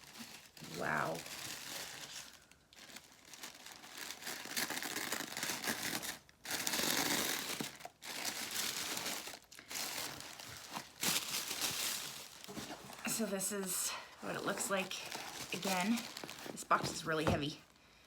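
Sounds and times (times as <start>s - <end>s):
tissue paper crinkling: 0.0s - 18.0s.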